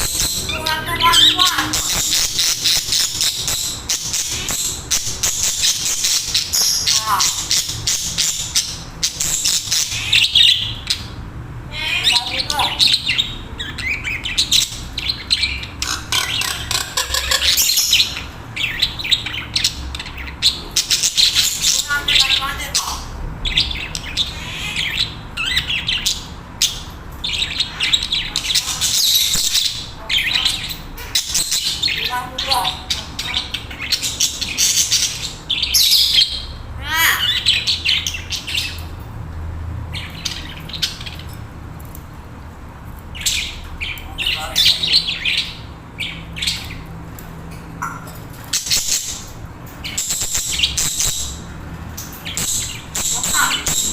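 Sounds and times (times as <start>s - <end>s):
budgerigars chattering: 0.0s - 11.2s, 11.8s - 38.9s, 47.8s - 53.9s.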